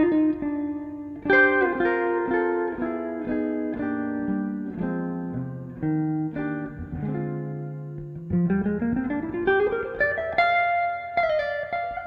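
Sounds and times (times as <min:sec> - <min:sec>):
electric guitar: 0:00.0 - 0:12.0.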